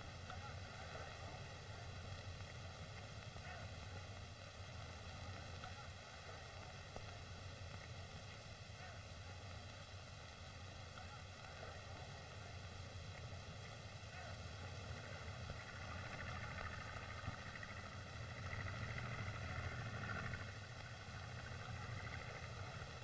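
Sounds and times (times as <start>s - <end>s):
film soundtrack hiss and hum: 0.0s - 23.0s.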